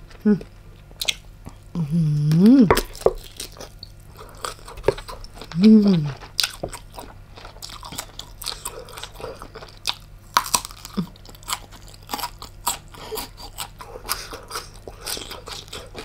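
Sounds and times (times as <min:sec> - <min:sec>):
crisp chewing crunches: 0:00.0 - 0:01.7, 0:02.3 - 0:16.0.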